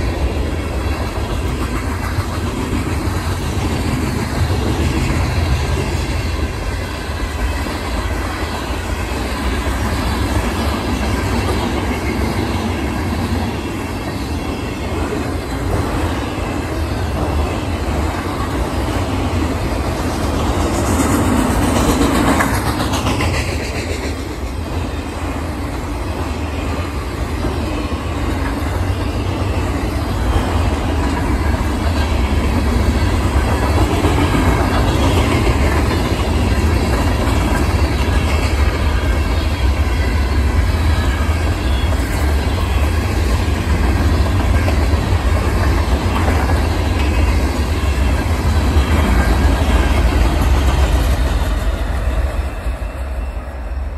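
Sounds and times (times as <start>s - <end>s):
freight train wheels rumbling on rail: 0.0s - 53.9s.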